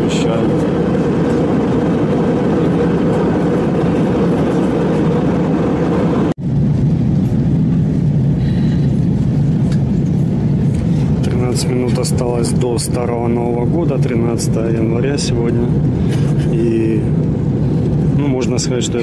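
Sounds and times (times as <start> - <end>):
jet engine cabin rumble: 0.0 - 19.0.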